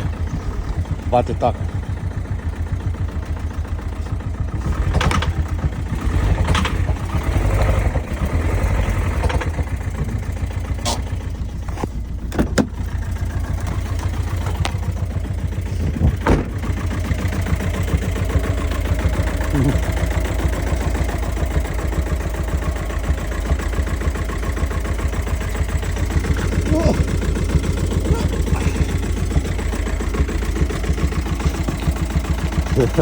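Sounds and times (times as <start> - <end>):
engine running with rapid knocking: 0.0 - 33.0.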